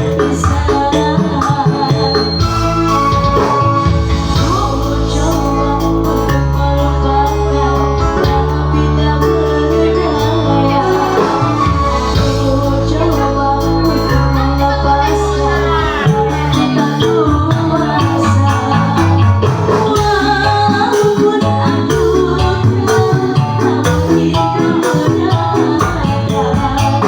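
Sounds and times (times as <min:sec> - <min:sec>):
song with singing and band: 0:00.0 - 0:27.0.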